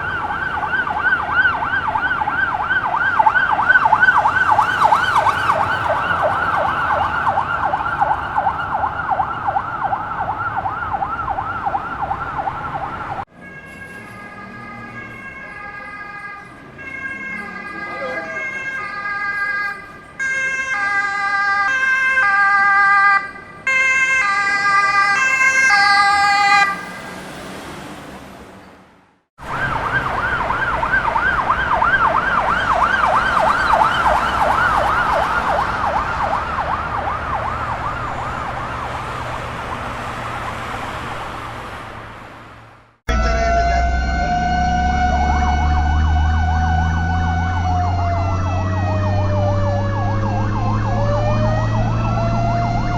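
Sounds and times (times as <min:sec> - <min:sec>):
warbling siren: 0:00.0 - 0:27.2, 0:29.4 - 0:39.9, 0:43.1 - 0:52.9
two-tone siren: 0:00.0 - 0:27.3, 0:29.4 - 0:39.9, 0:43.1 - 0:52.9
wailing siren: 0:00.0 - 0:27.6, 0:29.4 - 0:40.7, 0:43.1 - 0:52.9
traffic noise: 0:00.0 - 0:52.9.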